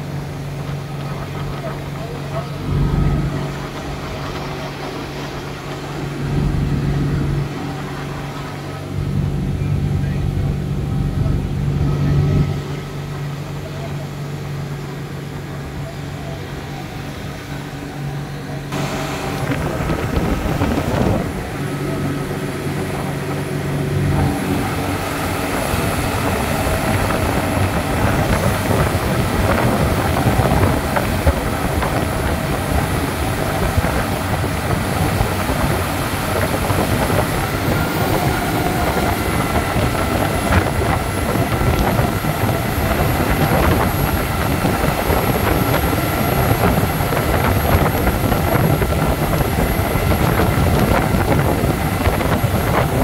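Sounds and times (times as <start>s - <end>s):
rush of churning wake: 0.0s - 17.8s, 18.6s - 53.0s
wind buffeting microphone: 0.0s - 17.8s, 18.6s - 53.0s
motorboat engine drone: 0.0s - 53.0s.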